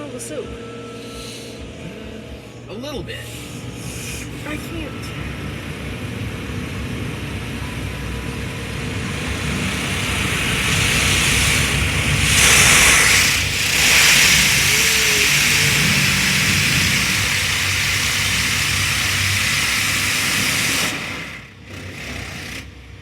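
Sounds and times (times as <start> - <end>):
car wash machinery rumble: 1.6 - 23.0
loud hiss: 3.2 - 21.6.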